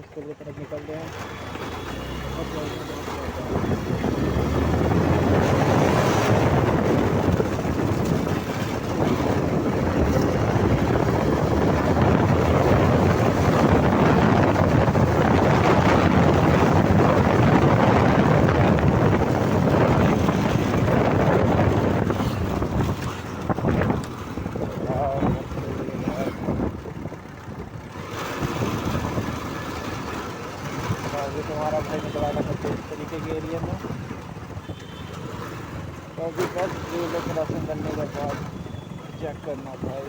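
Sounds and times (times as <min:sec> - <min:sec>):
wind buffeting microphone: 0:03.2 - 0:36.7.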